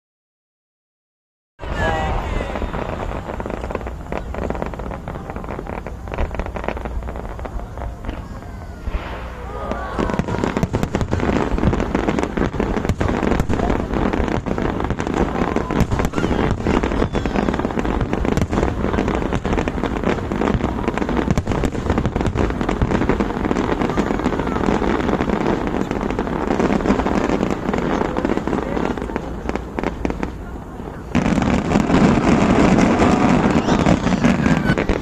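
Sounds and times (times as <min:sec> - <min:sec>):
fireworks bangs and crackling: 0:01.6 - 0:35.0.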